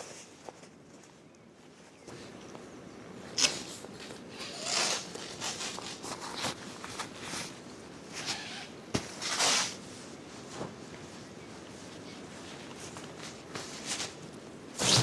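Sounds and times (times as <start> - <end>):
rustling handling noises: 0.0 - 15.0.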